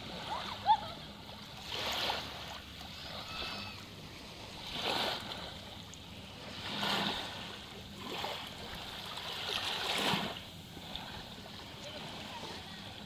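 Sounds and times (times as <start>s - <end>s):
small waves washing over sand: 0.0s - 13.0s.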